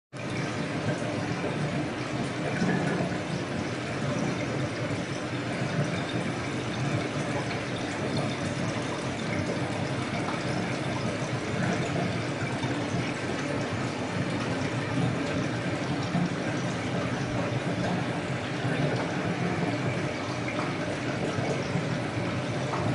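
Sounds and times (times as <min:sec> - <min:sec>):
aquarium water bubbling: 0:00.1 - 0:22.9.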